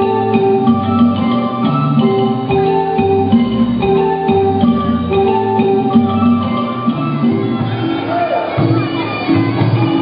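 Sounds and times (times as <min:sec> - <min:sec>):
mallet percussion melody: 0:00.0 - 0:10.0.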